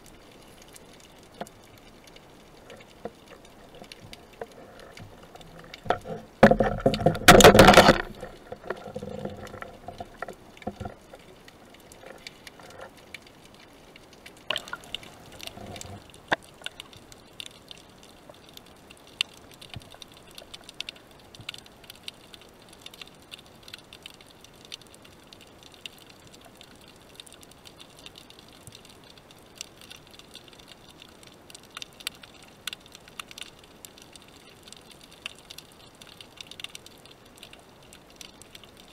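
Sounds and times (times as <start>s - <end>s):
faint crackling clicks: 0.0s - 38.9s
underwater rush of moving water: 0.0s - 38.9s.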